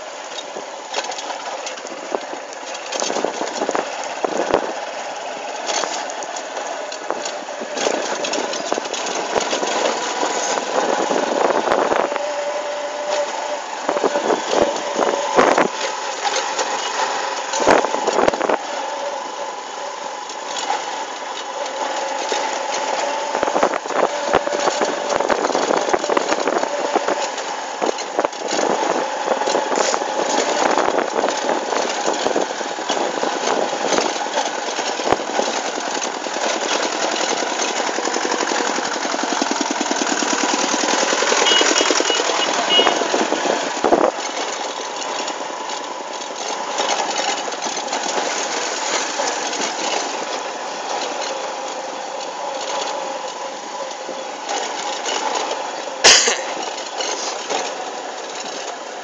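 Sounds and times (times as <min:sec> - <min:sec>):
sharp knocks and rattles: 0:00.0 - 0:12.3, 0:13.1 - 0:59.0
motorcycle engine droning: 0:00.0 - 0:59.0.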